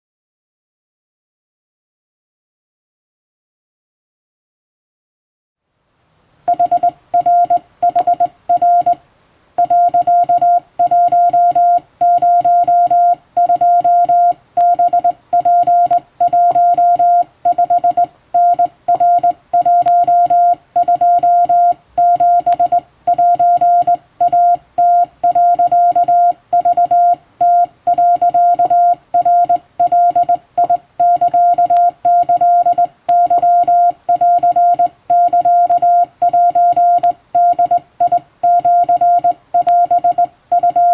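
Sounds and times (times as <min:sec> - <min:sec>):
morse code beeps: 0:06.5 - 0:09.0, 0:09.6 - 0:40.9.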